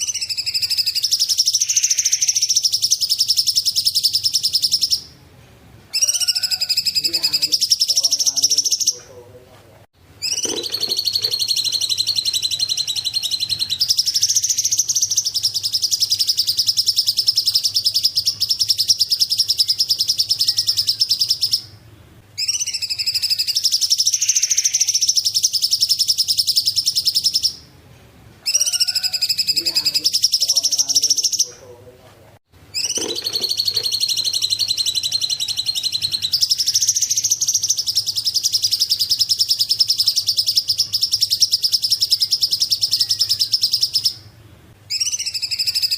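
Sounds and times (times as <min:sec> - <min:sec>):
bird singing in rapid trill: 0:00.0 - 0:05.2, 0:05.9 - 0:09.1, 0:10.2 - 0:27.7, 0:28.4 - 0:31.6, 0:32.7 - 0:45.9.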